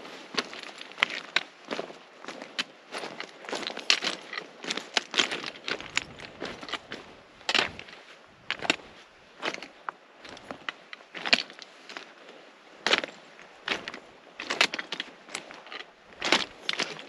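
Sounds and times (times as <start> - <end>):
footsteps crunching: 0.0 - 17.0.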